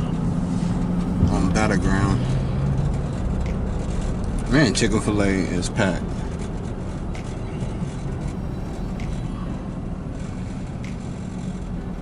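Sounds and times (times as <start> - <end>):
truck road and engine rumble: 0.0 - 12.0.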